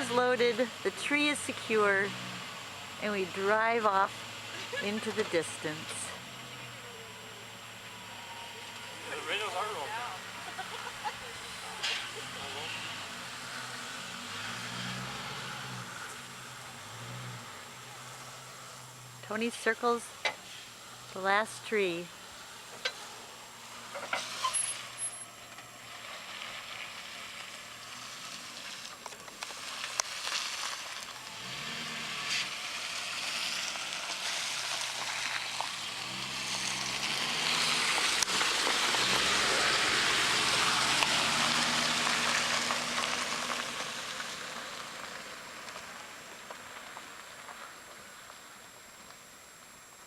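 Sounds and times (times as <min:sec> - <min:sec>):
car driving off: 0:00.0 - 0:50.0.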